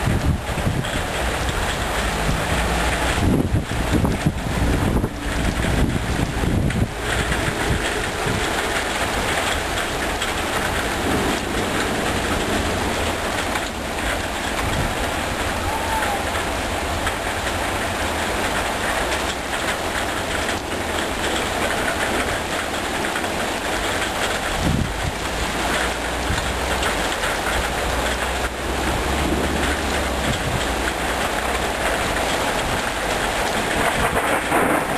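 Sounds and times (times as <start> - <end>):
heavy rain hissing: 0.0 - 34.9
low thunder rumble: 0.0 - 34.9.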